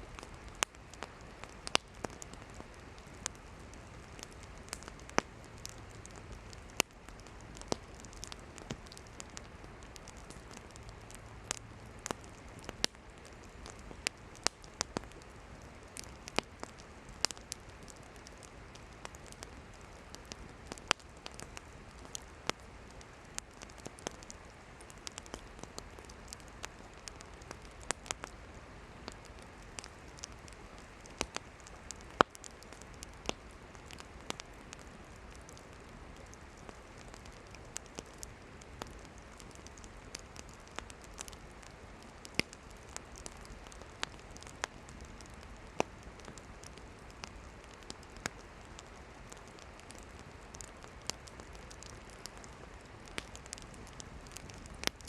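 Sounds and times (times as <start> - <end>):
campfire crackling and hissing: 0.0 - 55.0.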